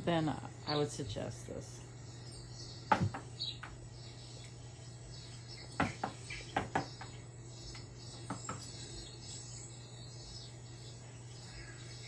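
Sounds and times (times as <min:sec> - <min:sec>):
birds chirping on television: 0:00.0 - 0:12.0
insects trilling: 0:00.0 - 0:12.0.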